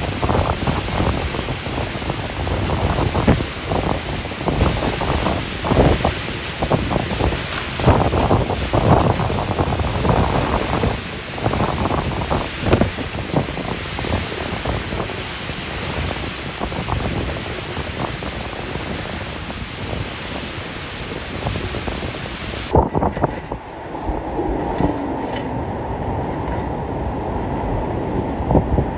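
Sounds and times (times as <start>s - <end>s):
strong wind buffeting a car: 0.0s - 28.9s.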